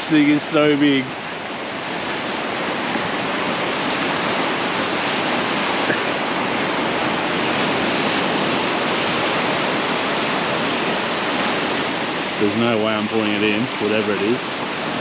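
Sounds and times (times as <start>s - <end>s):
surf breaking on a beach: 0.0s - 15.0s.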